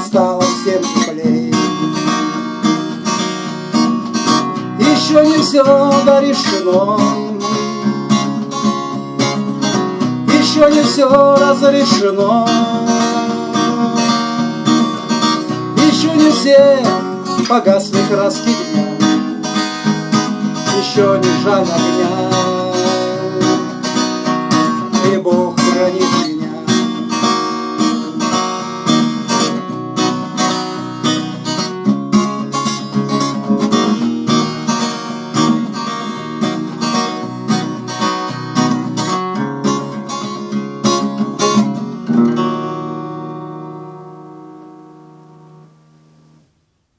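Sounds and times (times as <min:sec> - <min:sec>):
acoustic guitar strumming: 0:00.0 - 0:46.7.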